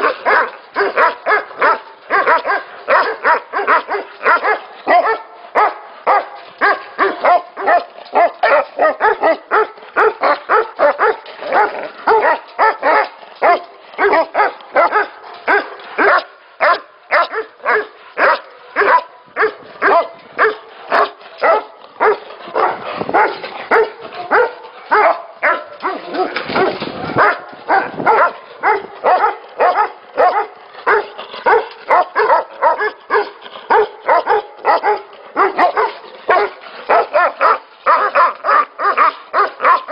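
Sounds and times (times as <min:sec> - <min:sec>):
dogs barking deeply: 0:00.0 - 0:39.9.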